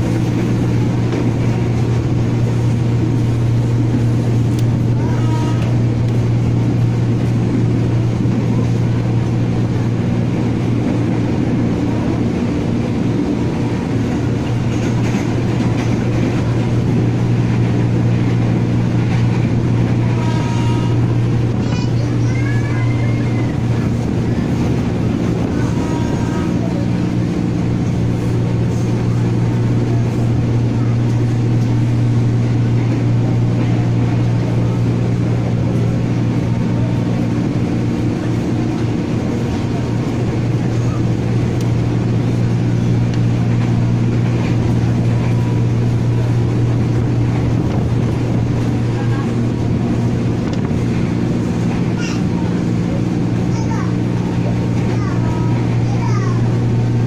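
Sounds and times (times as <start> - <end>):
electric train running: 0.0 - 57.0.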